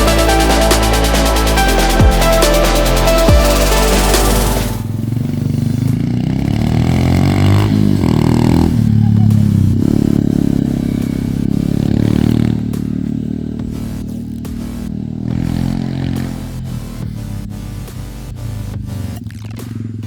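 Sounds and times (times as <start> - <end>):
motorbike engine revving: 0.0 - 20.0.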